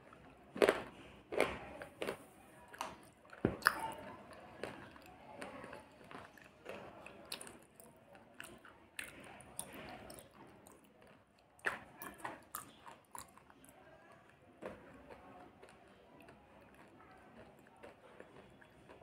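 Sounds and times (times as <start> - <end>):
crunchy chewing: 0.1 - 19.0.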